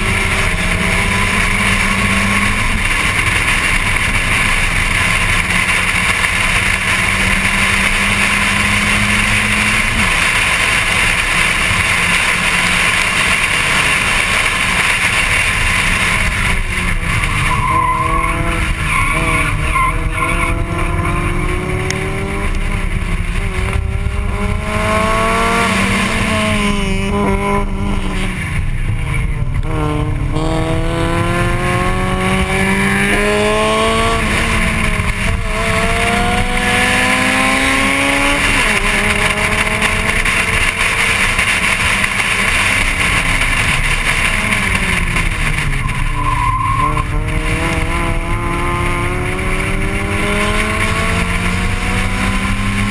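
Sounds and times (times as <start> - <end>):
car engine accelerating: 0.0 - 52.9
rushing noise: 0.0 - 52.9.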